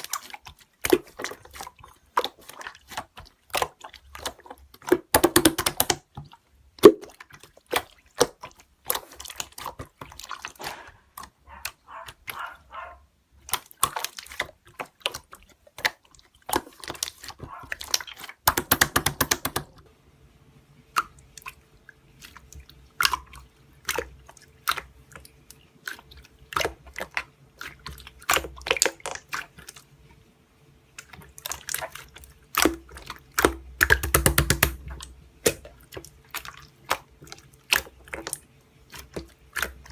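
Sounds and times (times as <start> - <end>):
slime squelching and popping: 0.0 - 12.7, 13.3 - 19.8, 20.9 - 29.8, 31.0 - 39.9.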